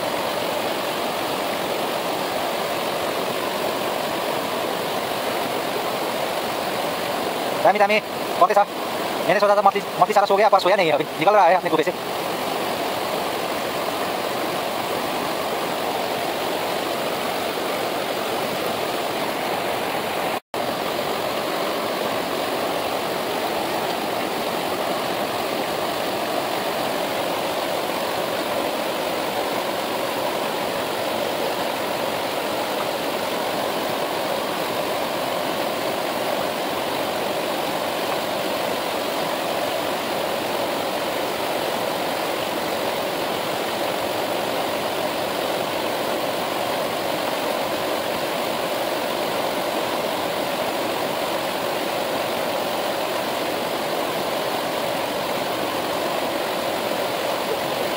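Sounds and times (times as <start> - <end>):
fast-flowing river rushing: 0.0 - 57.9.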